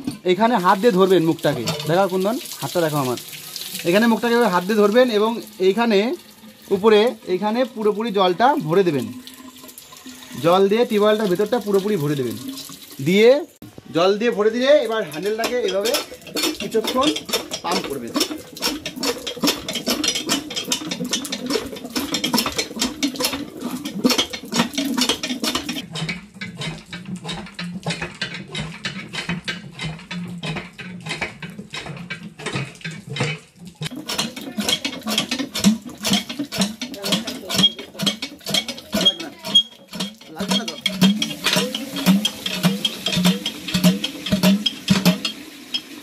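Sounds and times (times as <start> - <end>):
hand pump clanking and rattling: 0.0 - 46.0.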